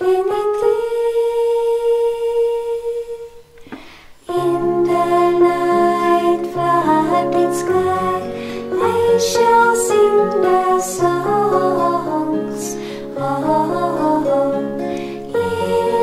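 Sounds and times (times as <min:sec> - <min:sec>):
women's vocal group singing: 0:00.0 - 0:16.0.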